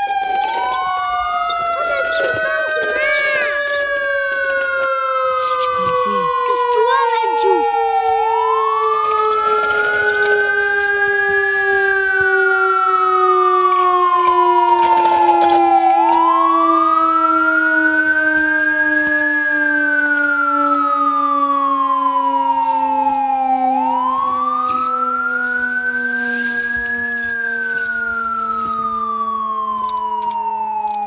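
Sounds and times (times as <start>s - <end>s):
toy siren wailing: 0.0s - 31.0s.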